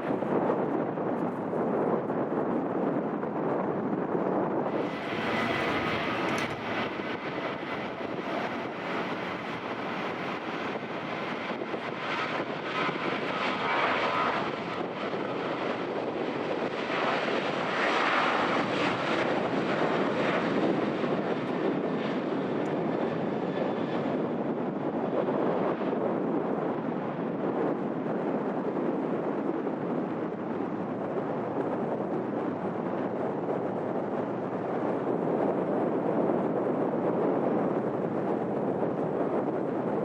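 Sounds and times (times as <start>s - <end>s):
jet engine roar: 0.0s - 40.0s.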